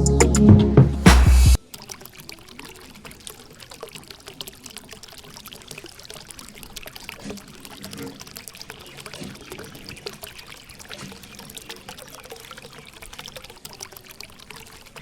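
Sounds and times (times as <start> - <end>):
water pouring and trickling: 1.6 - 15.0.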